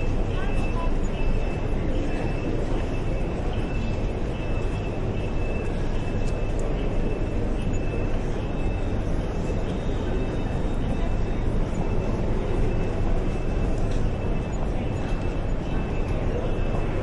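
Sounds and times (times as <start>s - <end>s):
hubbub of indistinct voices: 0.0s - 17.0s.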